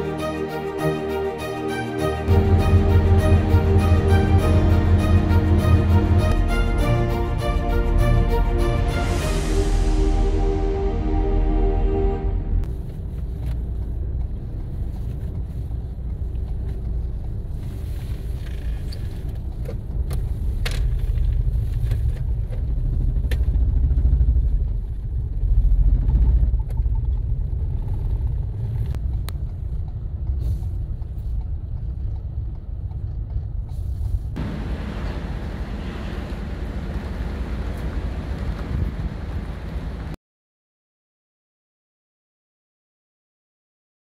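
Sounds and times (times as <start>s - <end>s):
vehicle rumble: 0.0s - 40.2s.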